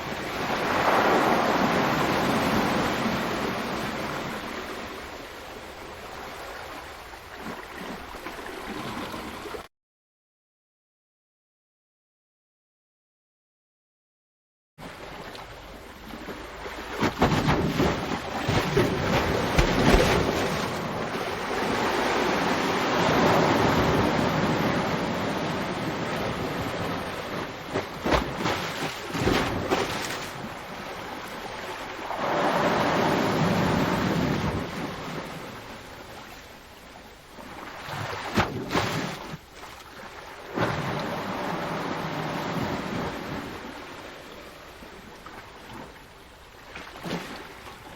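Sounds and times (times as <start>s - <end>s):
ocean waves breaking on shore: 0.0s - 9.7s, 14.8s - 47.9s.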